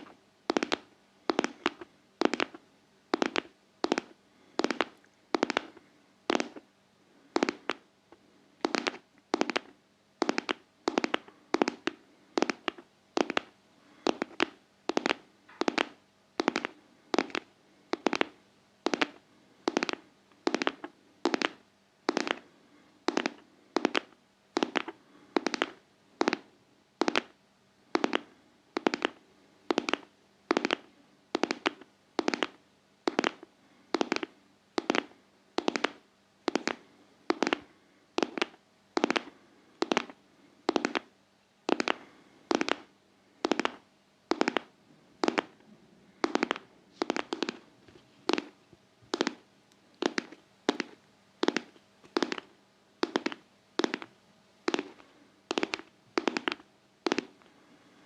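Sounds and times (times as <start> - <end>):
sharp rhythmic tapping: 0.0 - 6.7, 7.4 - 7.8, 8.6 - 22.4, 23.1 - 27.3, 28.8 - 37.6, 38.2 - 41.1, 41.7 - 45.6, 46.2 - 47.6, 50.0 - 54.1, 54.7 - 57.4.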